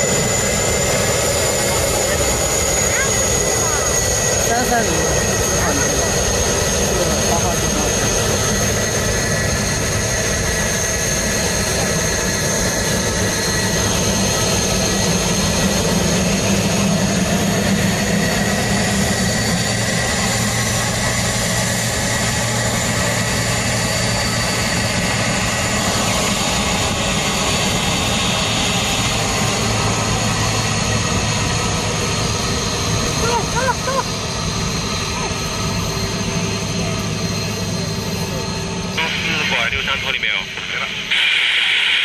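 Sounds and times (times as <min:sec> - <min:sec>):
jet engines droning with high whine: 0:00.0 - 0:42.0.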